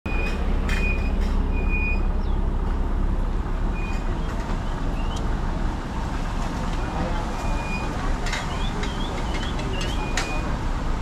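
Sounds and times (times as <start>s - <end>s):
low traffic rumble: 0.1s - 11.0s.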